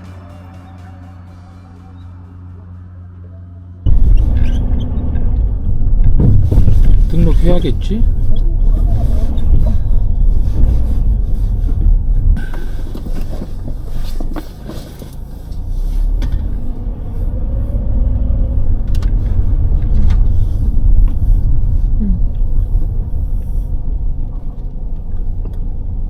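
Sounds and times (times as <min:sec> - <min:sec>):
car engine rumble: 0:00.0 - 0:26.0
road noise: 0:00.0 - 0:26.0.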